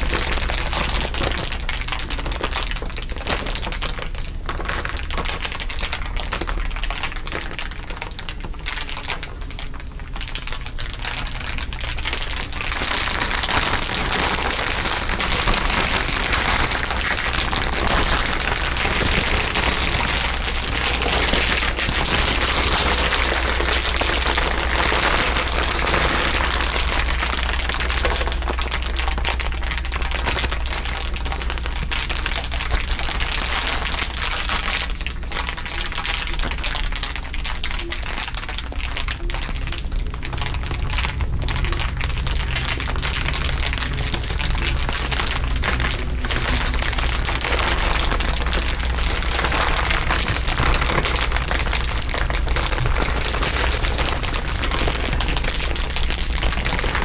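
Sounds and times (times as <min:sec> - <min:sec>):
dense crinkling crackle: 0:00.0 - 0:57.0
steady low hum: 0:00.0 - 0:57.0.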